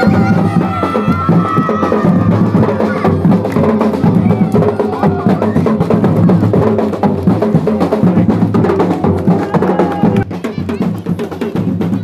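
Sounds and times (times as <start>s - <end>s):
fast percussion beat: 0.0s - 12.0s.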